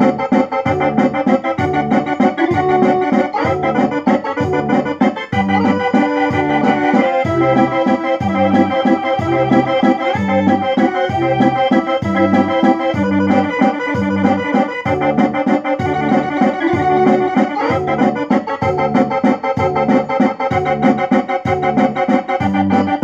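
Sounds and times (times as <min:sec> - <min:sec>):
barrel organ playing a tune: 0:00.0 - 0:23.0.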